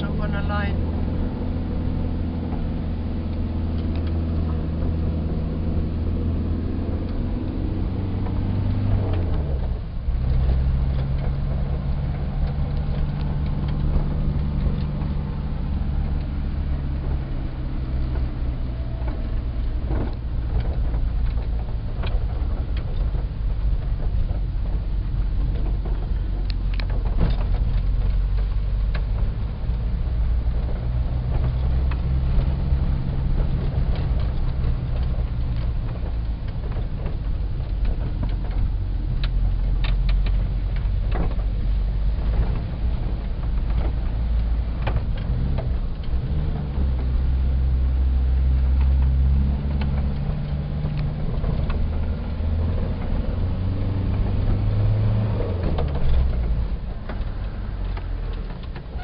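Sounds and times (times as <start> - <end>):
cab rattles and clicks: 0.0 - 59.0
van engine droning: 0.0 - 59.0.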